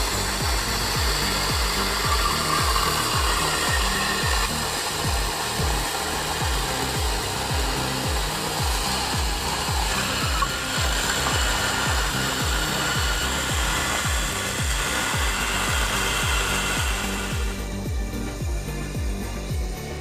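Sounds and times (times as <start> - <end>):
machine sawing wood: 0.0 - 17.7.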